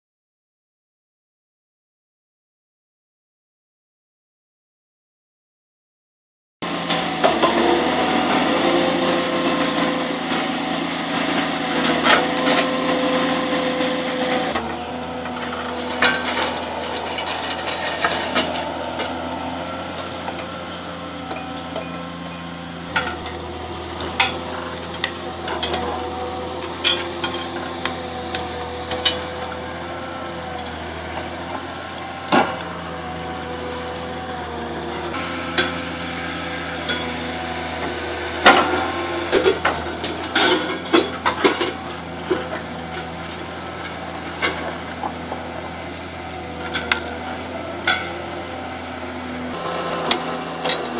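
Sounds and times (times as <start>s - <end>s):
harvester engine and hydraulics: 6.6s - 50.9s.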